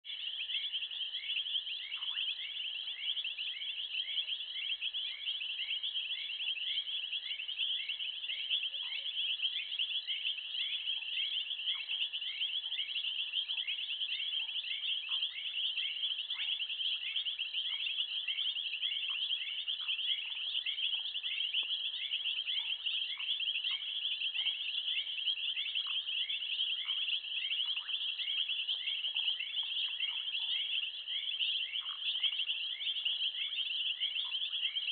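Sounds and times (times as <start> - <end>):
repeated insect chirp: 0.1 - 34.9.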